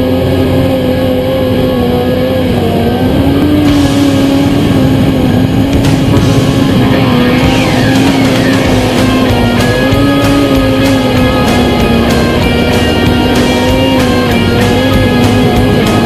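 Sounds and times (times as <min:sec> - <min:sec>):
motorcycle engine: 0:00.0 - 0:16.0
rock music with electric guitar: 0:00.0 - 0:16.0.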